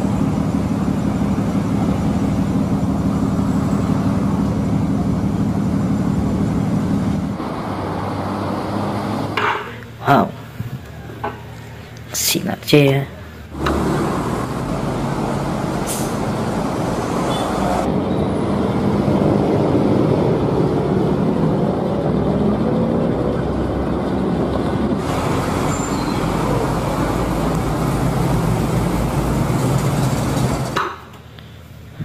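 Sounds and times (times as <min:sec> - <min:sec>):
bus engines running: 0:00.0 - 0:32.0
tyre and traffic noise: 0:00.0 - 0:32.0.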